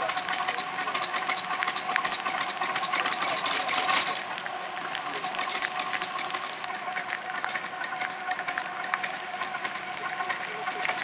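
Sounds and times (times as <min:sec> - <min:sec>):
miniature steam locomotive running: 0:00.0 - 0:11.0.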